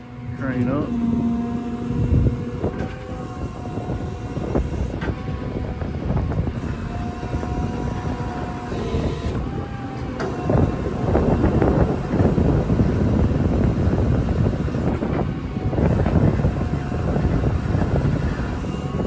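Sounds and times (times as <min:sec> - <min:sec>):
machinery whine: 0:00.0 - 0:19.0.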